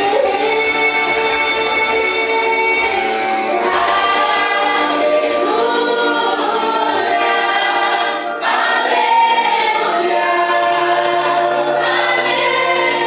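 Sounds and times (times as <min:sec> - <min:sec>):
group singing worship song: 0:00.0 - 0:13.0
sustained instrumental chords: 0:00.0 - 0:13.0.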